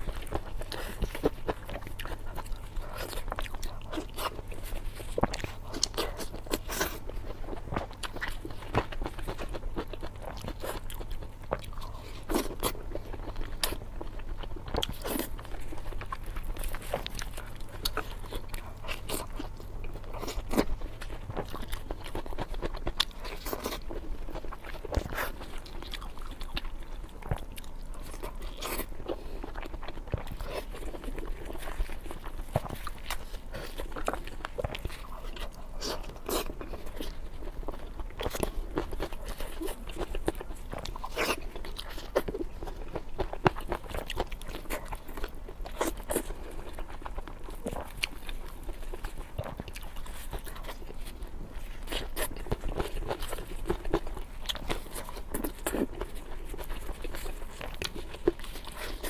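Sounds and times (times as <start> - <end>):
crunchy bites and chewing: 0.0 - 59.0.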